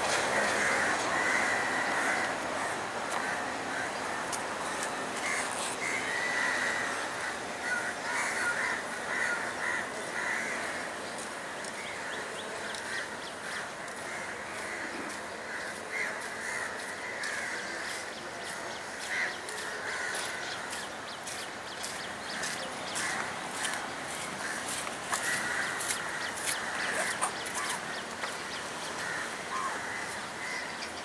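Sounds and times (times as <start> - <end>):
steady background hiss: 0.0 - 31.0
crows cawing: 0.3 - 31.0.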